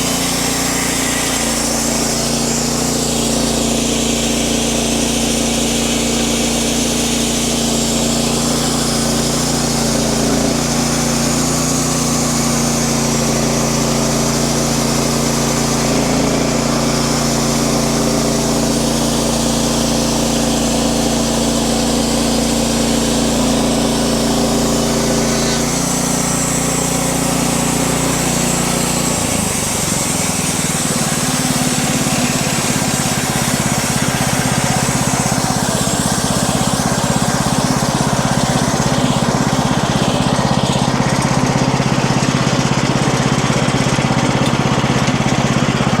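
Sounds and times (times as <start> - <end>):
saw cutting through log: 0.0 - 46.0
sawmill engine running: 0.0 - 46.0.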